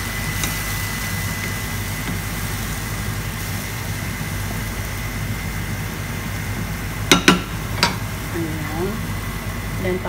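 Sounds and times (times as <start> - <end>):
pot simmering: 0.0 - 10.0.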